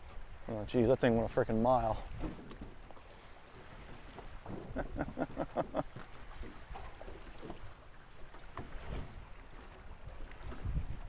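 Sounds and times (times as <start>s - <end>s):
low wash of wind and water: 0.0s - 11.0s
small waves slapping a boat: 0.0s - 11.0s.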